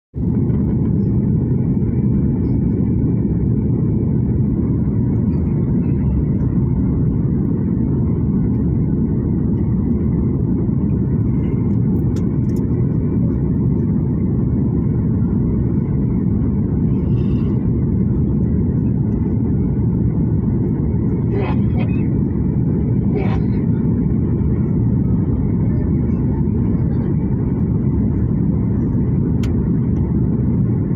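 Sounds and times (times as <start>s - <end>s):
airliner rumble: 0.2s - 30.9s.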